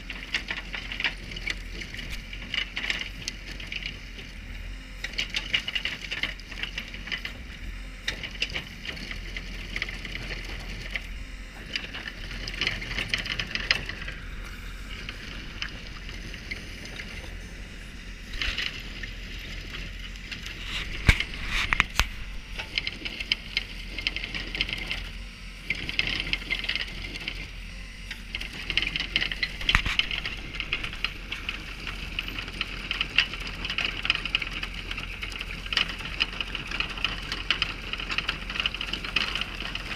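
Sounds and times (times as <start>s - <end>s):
low engine hum: 0.0s - 39.9s
milling drum grinding asphalt: 0.0s - 39.9s.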